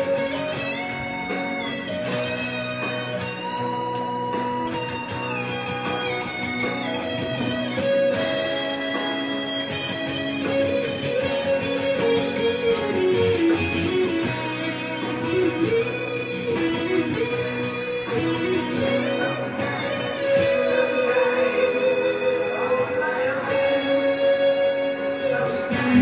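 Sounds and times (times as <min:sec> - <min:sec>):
steady beat: 0:00.0 - 0:21.2, 0:25.7 - 0:26.0
electric guitar melody: 0:00.0 - 0:26.0.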